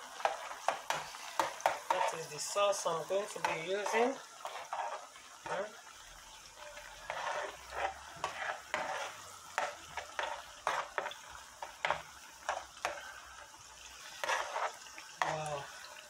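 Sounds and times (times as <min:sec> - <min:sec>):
metal spoon scraping a pan: 0:00.0 - 0:05.8, 0:06.6 - 0:13.2, 0:13.9 - 0:15.6
sauce sizzling: 0:00.0 - 0:16.0.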